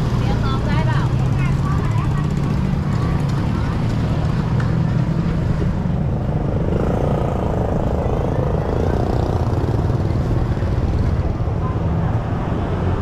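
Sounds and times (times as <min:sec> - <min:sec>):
motor traffic rumble: 0:00.0 - 0:13.0.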